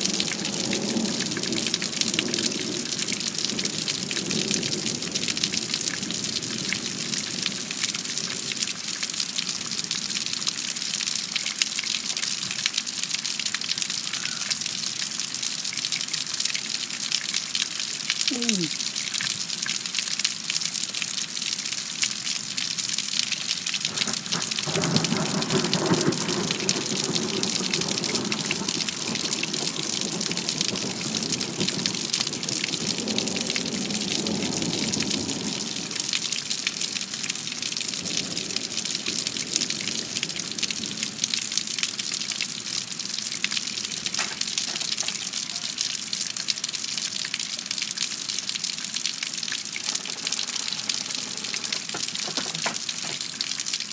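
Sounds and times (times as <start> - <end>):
heavy rain falling: 0.0 - 53.9
water gushing: 0.0 - 53.9.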